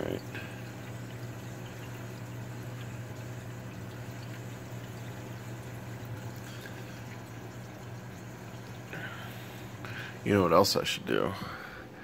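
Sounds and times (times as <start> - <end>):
water running and splashing: 0.0 - 11.3
low pump hum: 0.0 - 12.0.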